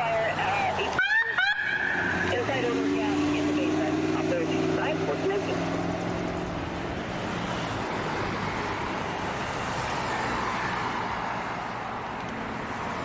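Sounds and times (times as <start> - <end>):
vehicle driving by: 0.3 - 12.1.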